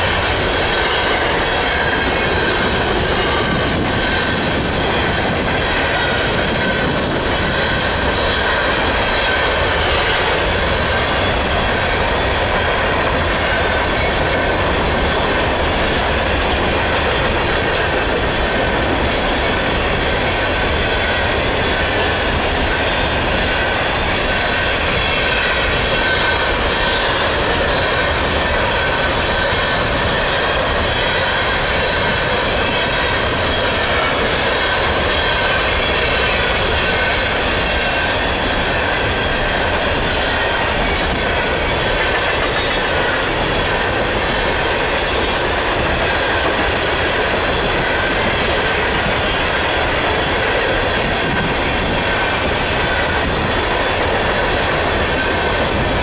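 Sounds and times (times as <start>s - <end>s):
high steady squeal: 0.0s - 56.0s.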